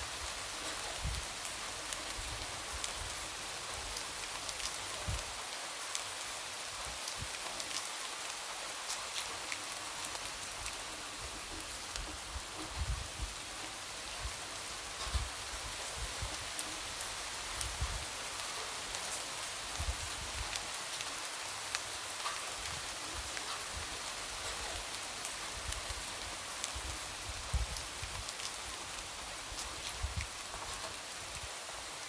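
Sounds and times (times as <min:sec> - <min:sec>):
light rain tapping on window: 0:00.2 - 0:31.8.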